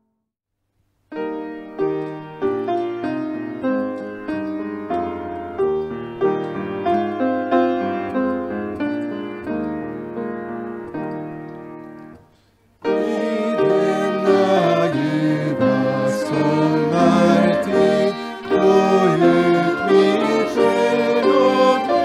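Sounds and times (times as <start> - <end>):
slow calm piano melody: 1.1 - 22.0.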